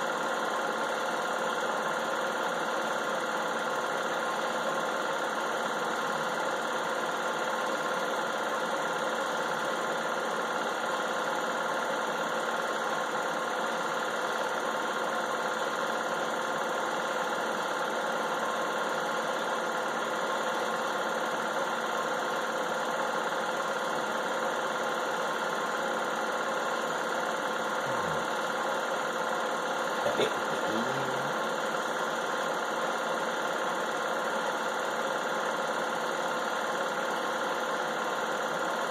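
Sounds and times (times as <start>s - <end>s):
film projector hum and whine: 0.0s - 38.9s.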